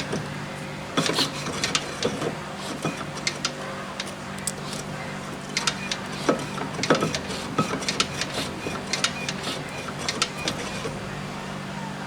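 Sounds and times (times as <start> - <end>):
metal parts and tools clinking: 1.0 - 11.0.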